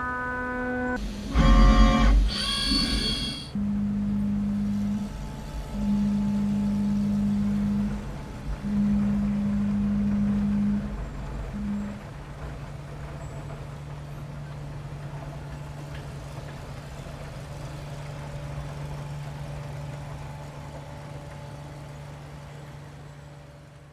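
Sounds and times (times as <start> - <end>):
mill machine humming: 0.0 - 23.9.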